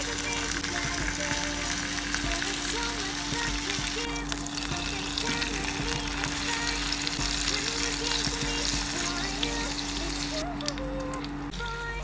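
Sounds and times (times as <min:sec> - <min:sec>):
fish sizzling in a pan: 0:00.0 - 0:10.4
soft background music: 0:00.0 - 0:12.0.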